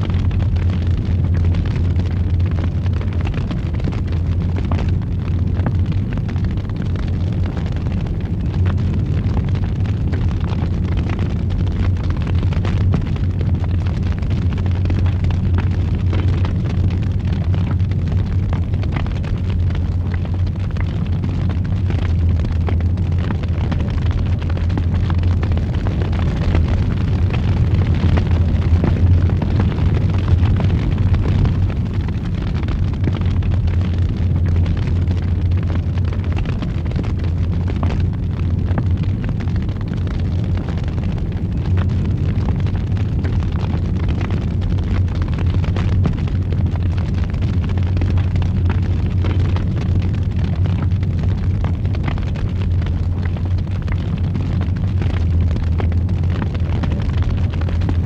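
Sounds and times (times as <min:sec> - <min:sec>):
fire crackles and pops: 0:00.0 - 0:58.0
fire roaring: 0:00.0 - 0:58.0.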